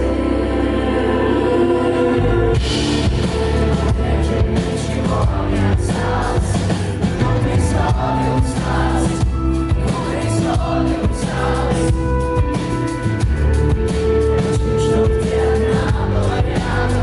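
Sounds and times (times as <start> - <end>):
voices singing together: 0.0 - 12.8, 14.5 - 17.0
live rock band playing: 2.3 - 17.0.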